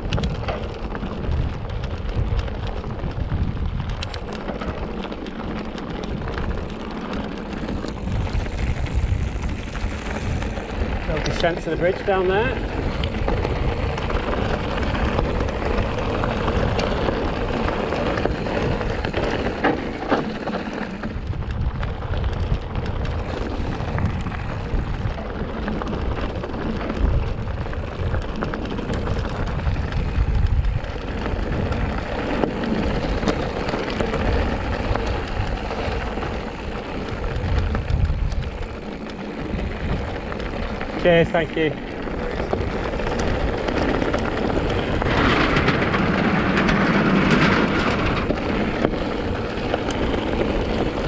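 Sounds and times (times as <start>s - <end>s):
bike tyres crunching on gravel: 0.0s - 51.0s
wind buffeting microphone: 0.0s - 51.0s.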